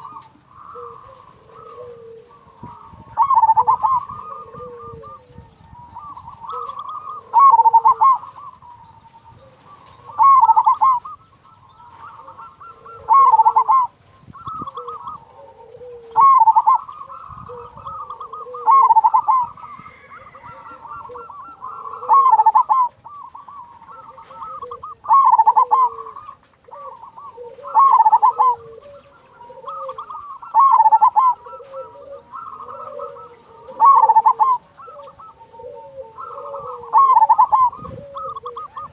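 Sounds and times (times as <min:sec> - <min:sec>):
dove cooing call: 0:00.0 - 0:38.9
soft low dove coos: 0:00.0 - 0:38.9.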